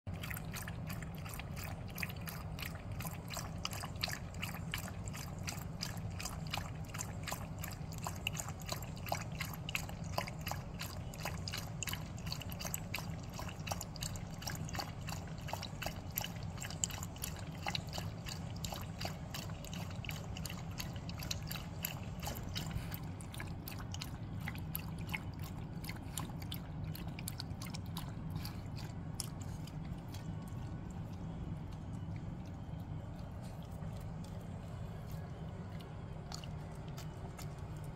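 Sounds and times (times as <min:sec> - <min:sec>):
dog lapping water: 0:00.1 - 0:37.9.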